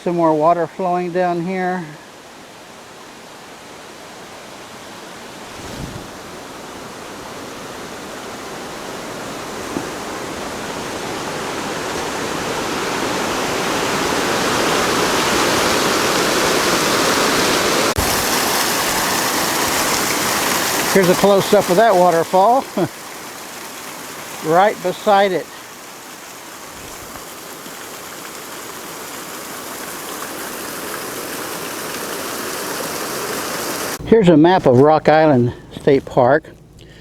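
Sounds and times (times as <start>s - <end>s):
waterfall rushing water: 0.0s - 34.0s.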